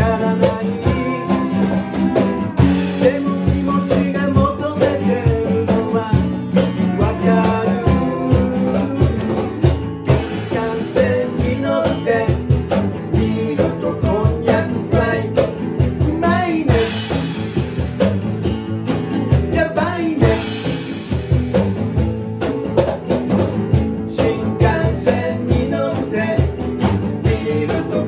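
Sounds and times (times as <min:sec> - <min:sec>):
person singing: 0:00.0 - 0:17.4, 0:19.4 - 0:20.9, 0:24.1 - 0:28.0
cajon beat: 0:00.0 - 0:28.0
guitars playing lively song: 0:00.0 - 0:28.0.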